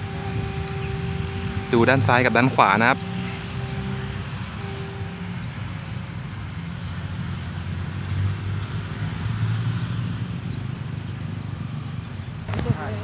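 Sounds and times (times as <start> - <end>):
low motor vehicle rumble: 0.0 - 13.0.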